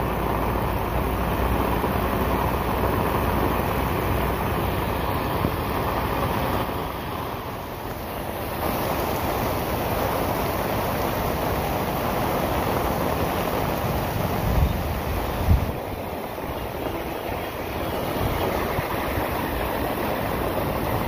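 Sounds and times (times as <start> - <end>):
heavy rain pouring on road: 0.0 - 21.0
vehicles passing on wet road: 0.0 - 21.0.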